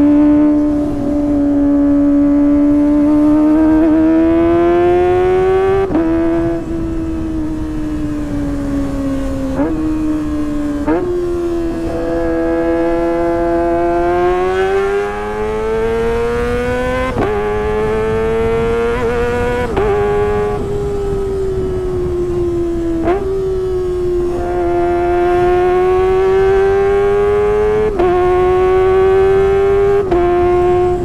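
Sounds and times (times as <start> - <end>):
motorcycle engine at high revs: 0.0 - 31.0.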